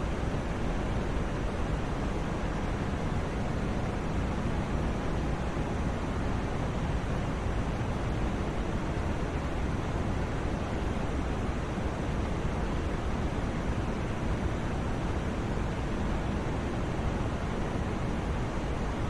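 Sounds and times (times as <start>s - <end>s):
white noise hiss: 0.0s - 19.0s.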